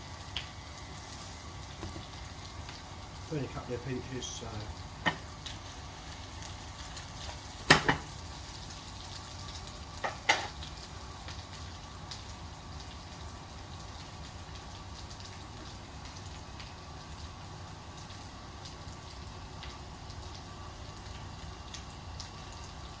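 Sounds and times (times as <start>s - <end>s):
potatoes sizzling in oil: 0.0s - 23.0s.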